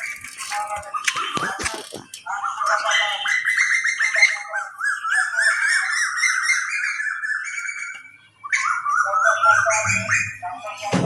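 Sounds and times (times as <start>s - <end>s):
small birds twittering: 0.0s - 11.0s.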